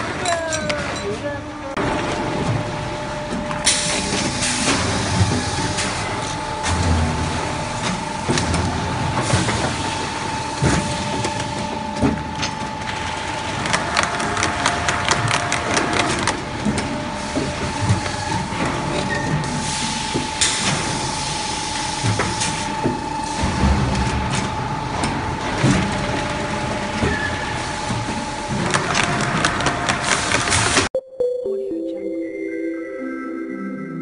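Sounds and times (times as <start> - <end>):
machinery whine: 0.0 - 30.9.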